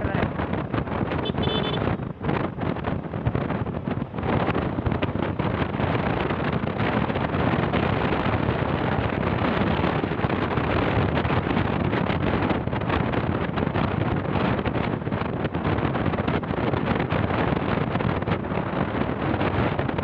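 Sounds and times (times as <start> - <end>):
moving vehicle running: 0.0 - 20.0
wind buffeting microphone: 0.0 - 20.0.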